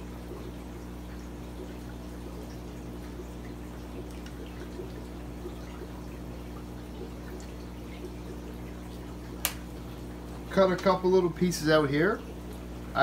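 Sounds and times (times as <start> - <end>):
aquarium water bubbling: 0.0 - 13.0
steady low hum: 0.0 - 13.0.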